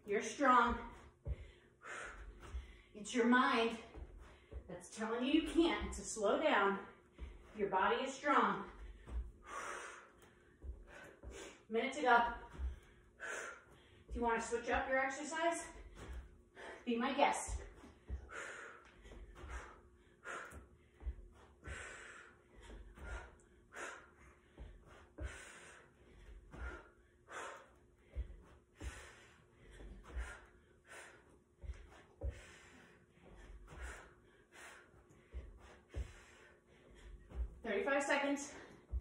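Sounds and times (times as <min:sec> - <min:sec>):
feet thudding on cushion: 0:00.2 - 0:39.0
woman breathing hard: 0:00.8 - 0:04.7, 0:05.4 - 0:07.6, 0:08.2 - 0:14.8, 0:15.6 - 0:37.6.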